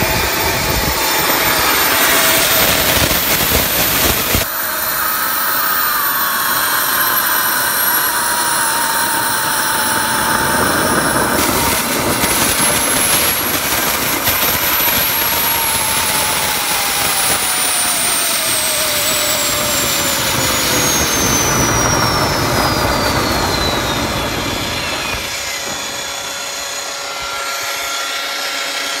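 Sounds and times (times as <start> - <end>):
high turbine whine: 0.0 - 29.0
turbojet engine roaring: 0.0 - 29.0.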